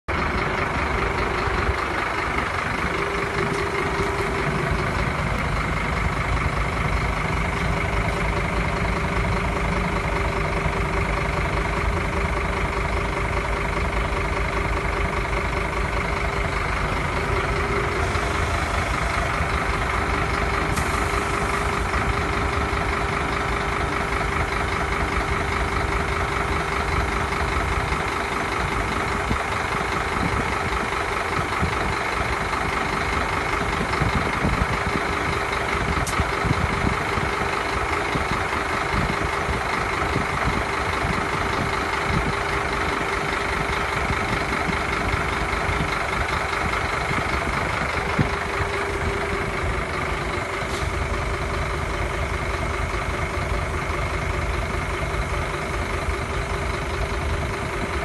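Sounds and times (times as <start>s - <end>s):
diesel truck engine idling: 0.0s - 58.0s
steady whining tone: 0.2s - 58.0s.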